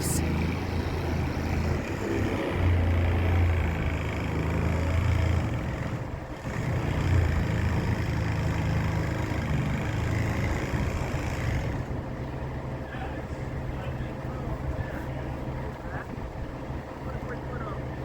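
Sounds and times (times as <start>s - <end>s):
crane engine humming: 0.0s - 18.0s.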